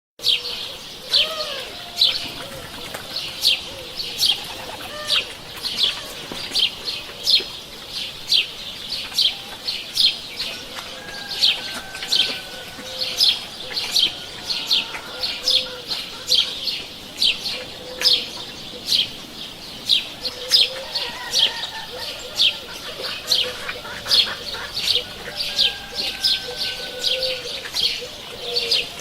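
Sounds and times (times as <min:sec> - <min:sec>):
birds chirping: 0:00.2 - 0:29.0.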